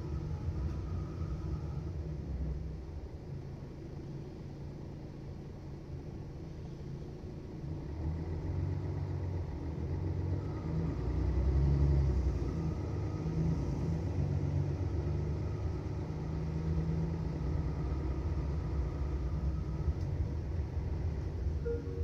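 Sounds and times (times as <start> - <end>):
bus engine rumbling: 0.0 - 22.0.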